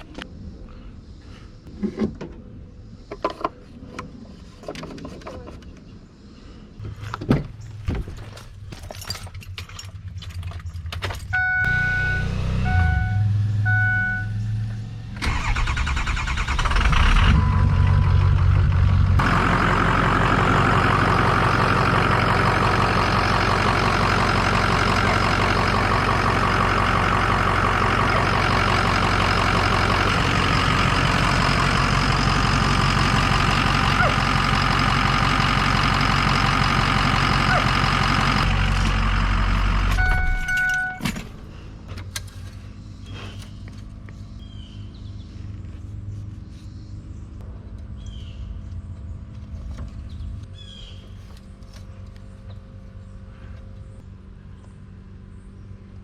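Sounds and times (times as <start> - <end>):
diesel engine cranking and idling: 6.8 - 56.0.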